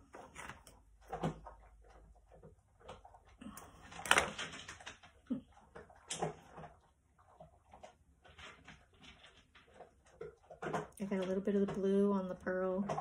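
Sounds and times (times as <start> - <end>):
plastic bottle rustle and clack: 0.0 - 13.0.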